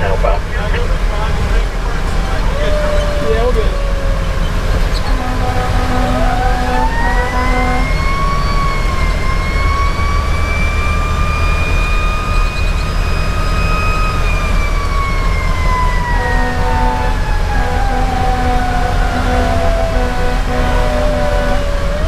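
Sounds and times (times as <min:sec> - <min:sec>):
diesel engine drone: 0:00.0 - 0:22.0
mechanical siren wailing: 0:02.4 - 0:22.0.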